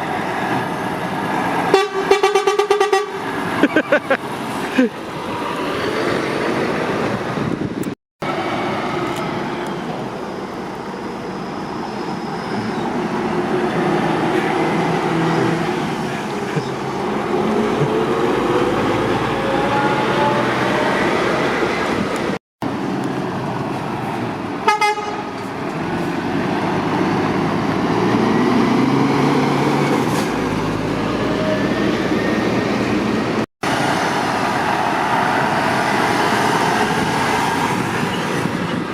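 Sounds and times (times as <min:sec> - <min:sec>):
lorries and traffic passing: 0:00.0 - 0:38.9.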